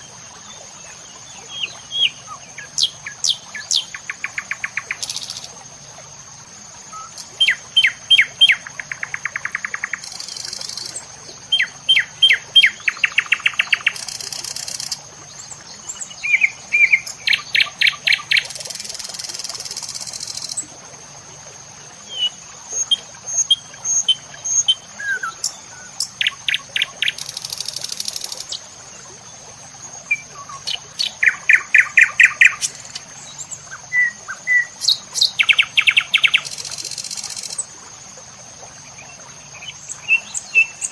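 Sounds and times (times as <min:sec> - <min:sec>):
songbirds chirping and trilling: 0:00.0 - 0:06.2, 0:06.8 - 0:20.5, 0:21.4 - 0:40.9.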